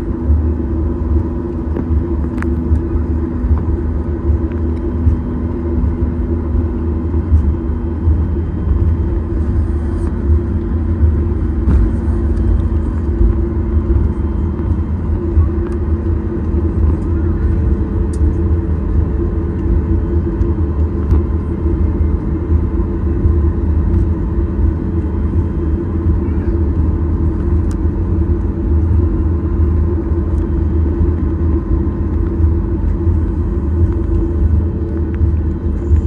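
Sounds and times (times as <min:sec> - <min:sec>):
airplane cabin rumble: 0:00.0 - 0:36.0
faint hum: 0:00.0 - 0:36.0.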